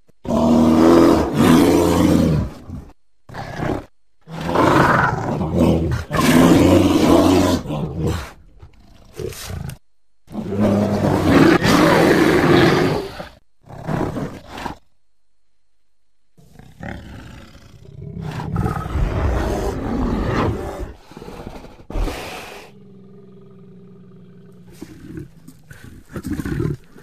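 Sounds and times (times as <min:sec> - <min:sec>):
bear roaring: 0:00.2 - 0:14.8, 0:16.4 - 0:27.0
bear snarling: 0:00.2 - 0:14.8, 0:16.4 - 0:27.0.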